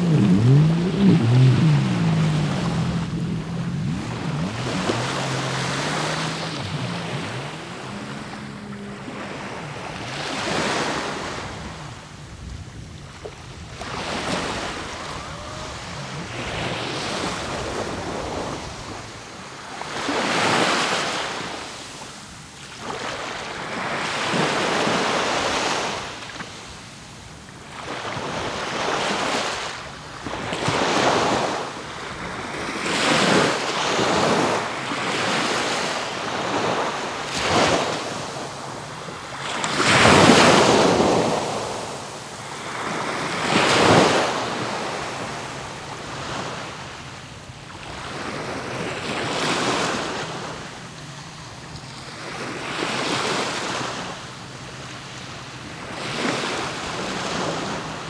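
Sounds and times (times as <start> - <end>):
sea waves breaking on beach: 0.0 - 58.0.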